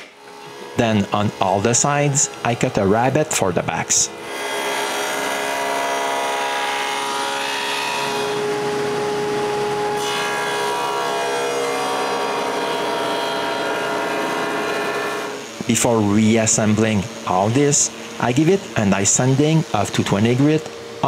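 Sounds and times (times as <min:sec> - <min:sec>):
table saw cutting wood: 0:00.0 - 0:21.0.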